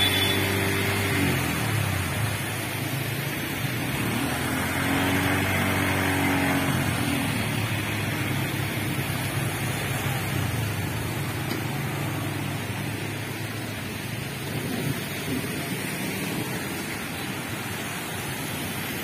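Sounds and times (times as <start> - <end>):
rain: 0.0 - 19.0
vehicle driving through water: 0.0 - 19.0
vehicle engine: 0.0 - 19.0.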